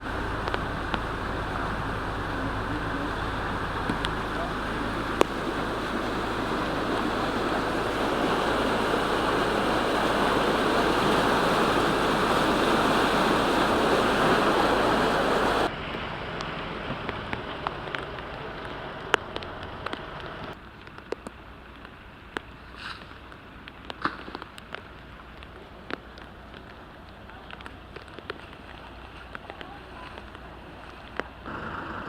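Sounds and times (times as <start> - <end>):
rush of flowing floodwater: 0.0 - 22.4, 24.6 - 32.0.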